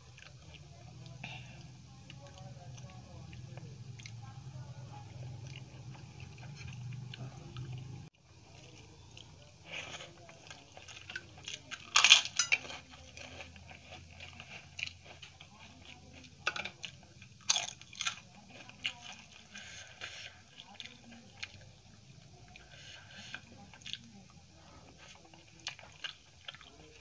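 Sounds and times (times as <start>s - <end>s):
soft chewing crackles: 0.0s - 27.0s.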